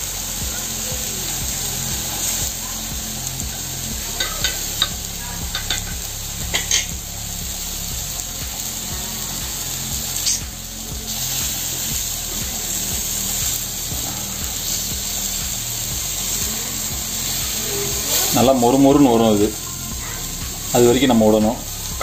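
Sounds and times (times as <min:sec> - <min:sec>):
fruit slices sizzling in fat: 0:00.0 - 0:22.0.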